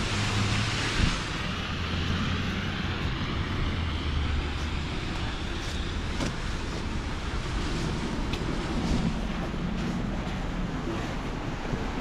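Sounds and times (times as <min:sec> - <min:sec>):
cars on wet road: 0:00.0 - 0:12.0.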